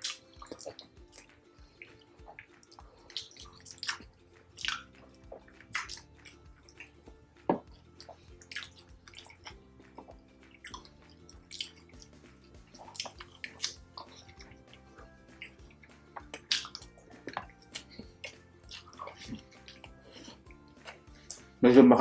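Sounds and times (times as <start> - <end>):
wet chewing and lip smacks: 0.0 - 21.6
faint background music: 0.0 - 22.0.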